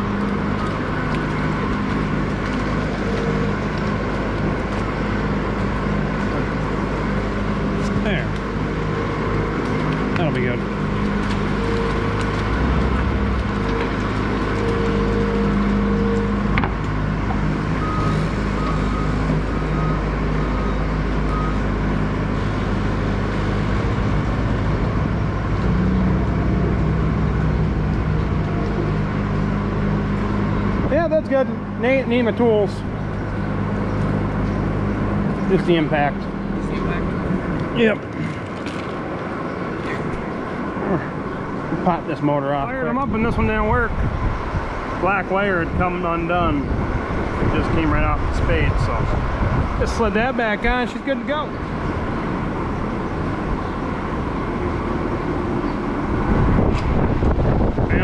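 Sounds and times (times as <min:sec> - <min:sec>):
engine running with low hum: 0:00.0 - 0:58.0.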